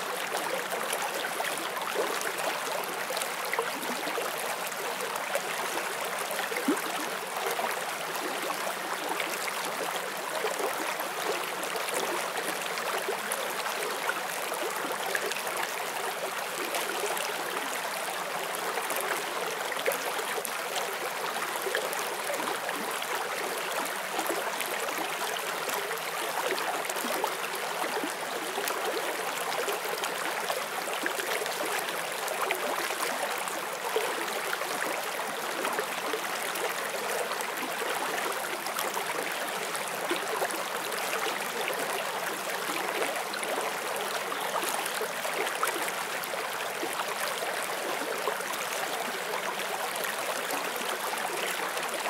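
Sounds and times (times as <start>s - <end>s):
stream flowing over stones: 0.0s - 52.0s.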